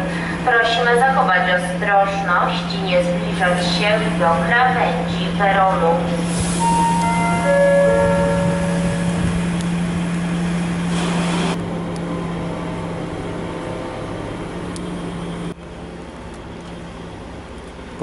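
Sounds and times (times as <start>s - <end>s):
heavy vehicle engine humming: 0.0s - 18.0s.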